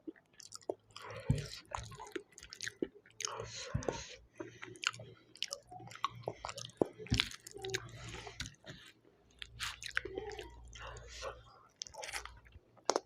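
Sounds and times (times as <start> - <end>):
chewing and biting food: 0.0 - 13.0.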